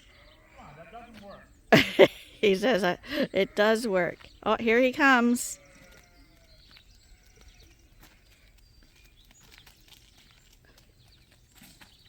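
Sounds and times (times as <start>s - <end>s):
faint footsteps on ground: 0.0s - 1.6s, 3.0s - 12.0s.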